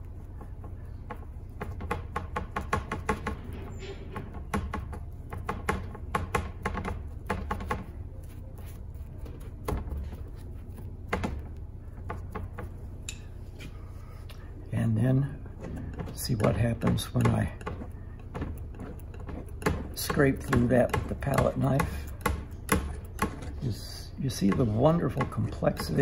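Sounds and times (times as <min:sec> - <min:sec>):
paintbrush dabbing and scrubbing: 0:00.0 - 0:26.0
steady low hum: 0:00.0 - 0:26.0.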